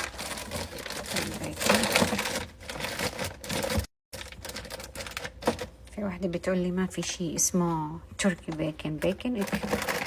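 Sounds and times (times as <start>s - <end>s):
food packages handled on shelves: 0.0s - 10.0s.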